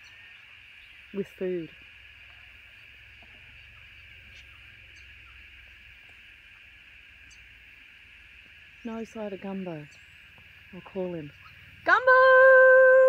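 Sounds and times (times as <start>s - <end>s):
faint bird chirps: 0.0s - 7.6s, 8.7s - 11.8s
steady high hiss: 0.0s - 13.0s.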